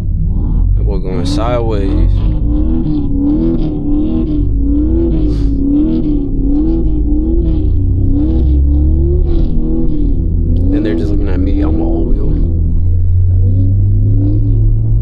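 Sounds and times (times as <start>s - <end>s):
car engine and tyres rumbling: 0.0s - 15.0s
wavering tone: 0.0s - 15.0s.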